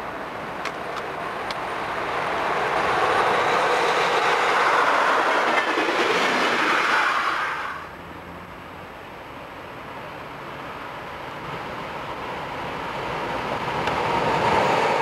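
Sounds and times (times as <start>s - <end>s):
passenger train passing: 0.0s - 15.0s.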